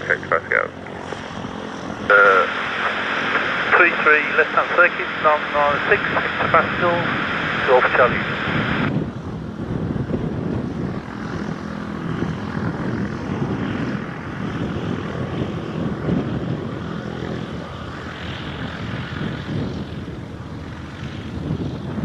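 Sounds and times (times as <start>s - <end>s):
airplane engine and propeller drone: 0.0s - 22.0s.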